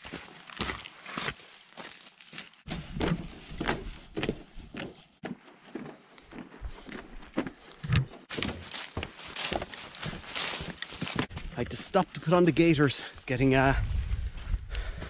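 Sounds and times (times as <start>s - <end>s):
footsteps of boots on wet trail: 0.0s - 12.0s, 14.0s - 15.0s
footsteps on plank boardwalk: 0.0s - 12.3s, 14.0s - 15.0s.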